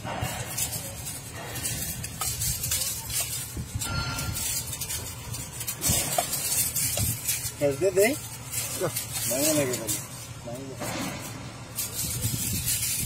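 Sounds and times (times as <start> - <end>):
scraping and metallic clatter: 0.0 - 13.0.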